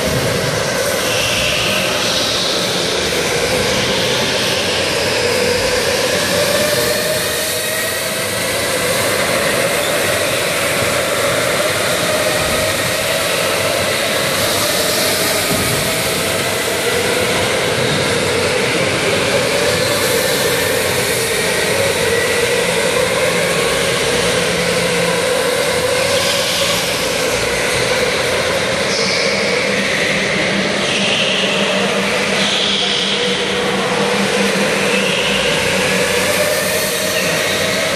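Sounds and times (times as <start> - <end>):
electric kart motors whining: 0.0 - 37.9
indoor hall noise: 0.0 - 37.9.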